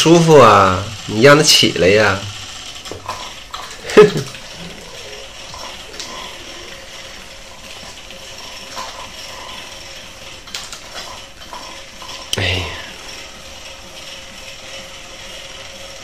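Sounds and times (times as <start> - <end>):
toy motor whirring: 0.0 - 16.0.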